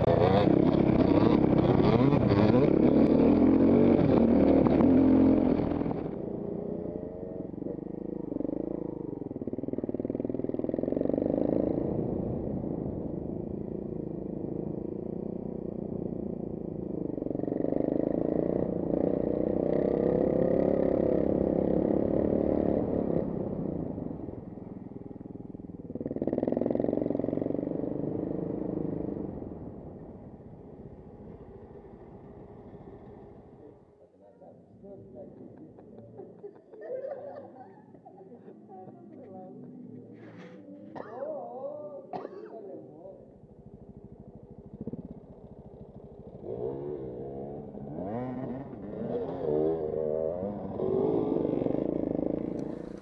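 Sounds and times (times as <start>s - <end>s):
motorcycle engine revving: 0.0s - 34.0s, 43.1s - 53.0s.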